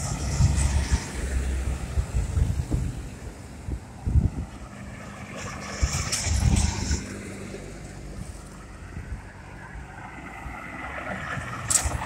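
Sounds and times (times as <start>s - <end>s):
cars driving past: 0.0s - 12.0s
wind buffeting microphone: 0.0s - 12.0s.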